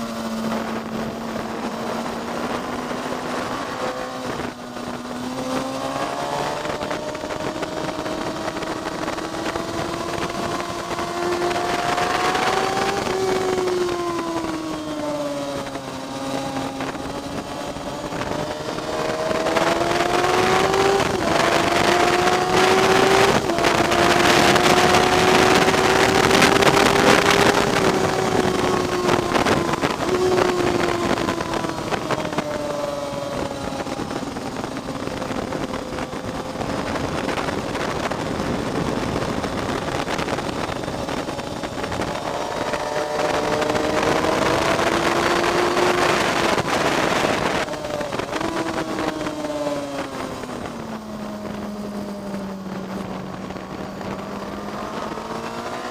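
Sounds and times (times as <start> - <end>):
motorcycle engine revving: 0.0 - 55.9
wind rushing: 0.0 - 55.9.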